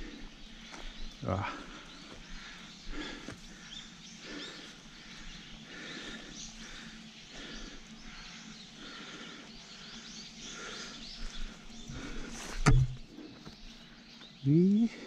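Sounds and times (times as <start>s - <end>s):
small birds chirping: 0.0s - 15.0s
rustling through undergrowth: 0.4s - 14.6s.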